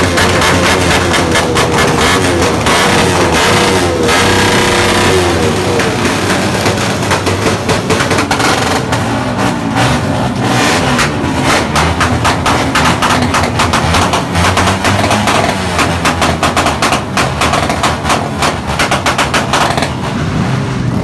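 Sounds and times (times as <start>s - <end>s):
exhaust popping: 0.0s - 20.2s
motorcycle engine revving: 0.0s - 21.0s.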